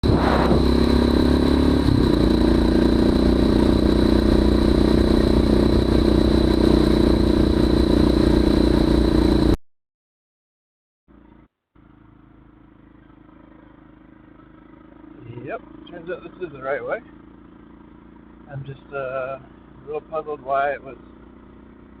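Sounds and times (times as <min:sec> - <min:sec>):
off-road motorcycle engine running: 0:00.0 - 0:09.6, 0:11.1 - 0:22.0.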